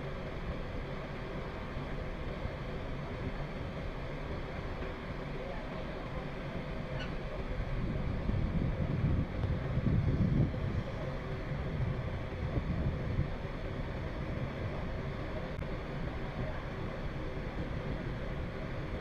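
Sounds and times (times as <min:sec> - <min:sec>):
ferry engine drone: 0:00.0 - 0:19.0
wind: 0:00.0 - 0:19.0.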